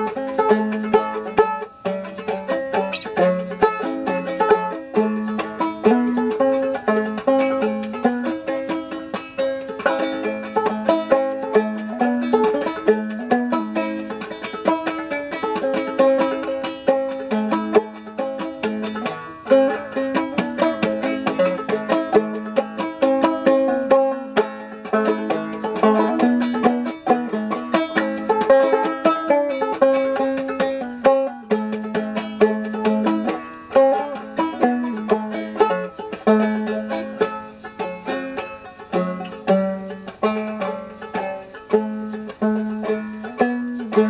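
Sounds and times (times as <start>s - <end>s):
banjo picking: 0.0s - 44.0s.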